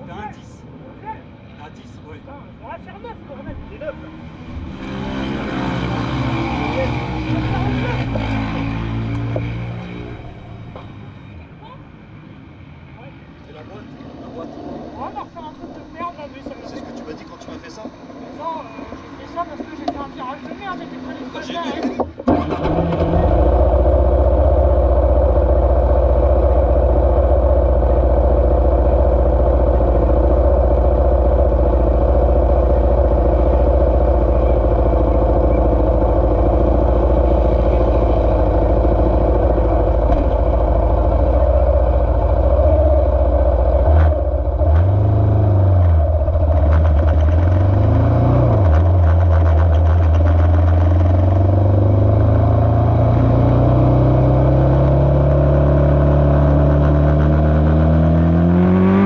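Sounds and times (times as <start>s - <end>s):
motorcycle engine idling and revving: 3.4s - 59.0s.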